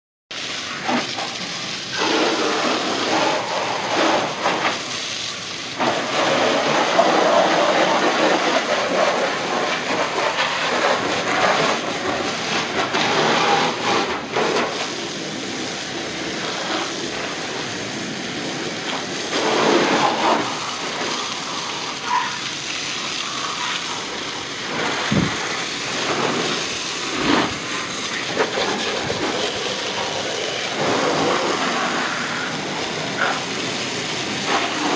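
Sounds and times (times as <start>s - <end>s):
pressure washer water spray: 0.3s - 34.9s.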